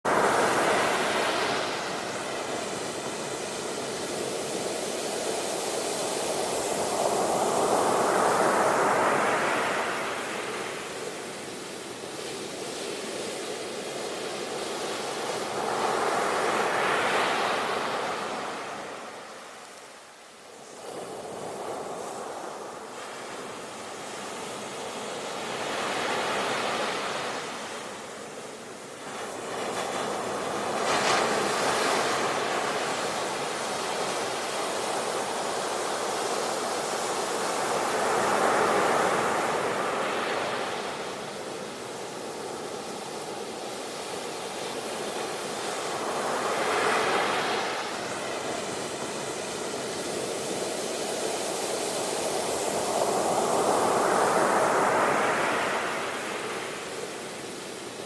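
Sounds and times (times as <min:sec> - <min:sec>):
sea waves breaking on shore: 0:00.1 - 0:58.0.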